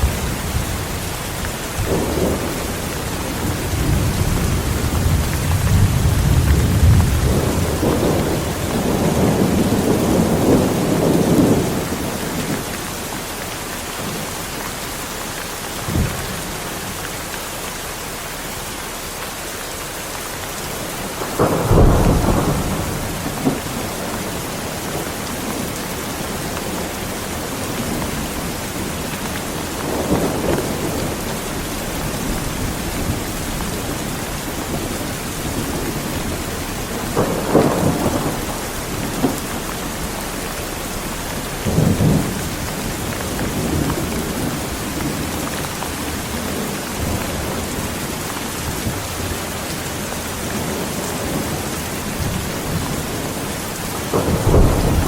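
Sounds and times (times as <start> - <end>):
thunder rumbling: 0.0 - 13.3, 20.7 - 55.0
heavy rain falling: 0.0 - 55.0.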